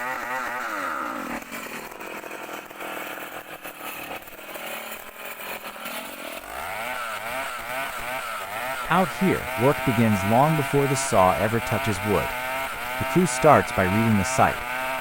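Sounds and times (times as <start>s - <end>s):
chainsaw engine revving: 0.0s - 15.0s.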